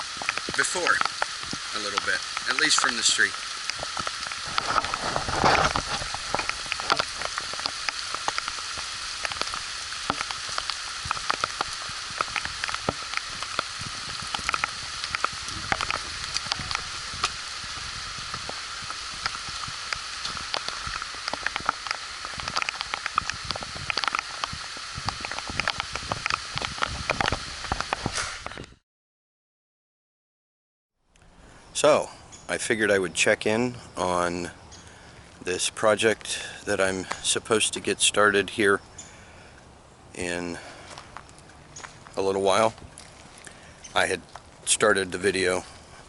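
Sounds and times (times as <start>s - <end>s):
raindrops ticking on surface: 0.0s - 28.7s, 31.1s - 46.0s
rain hissing: 0.0s - 28.8s, 31.2s - 46.0s.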